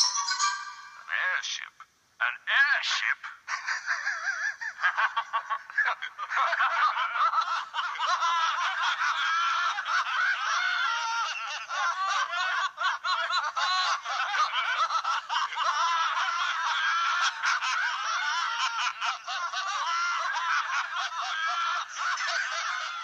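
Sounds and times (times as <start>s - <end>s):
people laughing hysterically: 3.4s - 23.0s.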